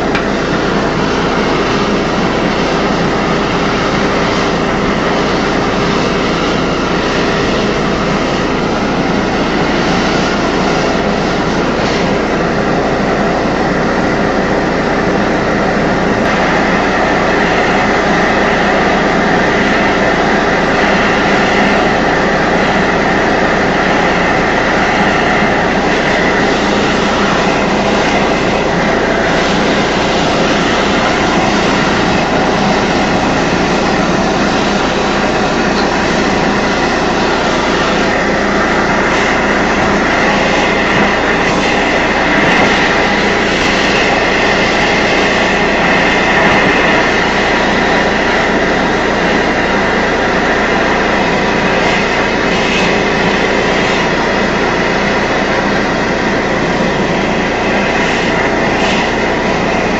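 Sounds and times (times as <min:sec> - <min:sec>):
air compressor hum: 0:00.0 - 0:59.9
torch rushing: 0:00.0 - 0:59.9.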